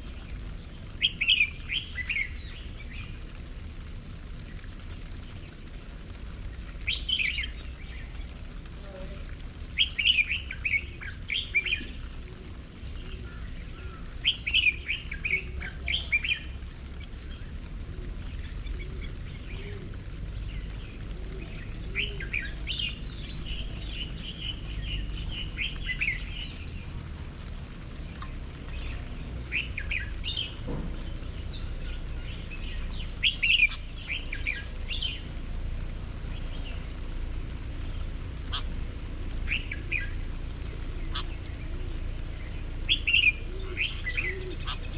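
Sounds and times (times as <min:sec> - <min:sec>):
low background rumble: 0:00.0 - 0:44.9
songbirds chirping: 0:00.0 - 0:44.9.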